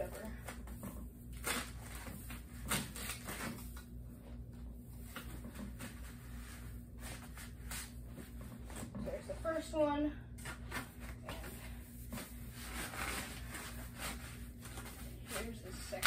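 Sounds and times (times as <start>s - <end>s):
foam tubes rustling and scraping: 0.0s - 16.0s.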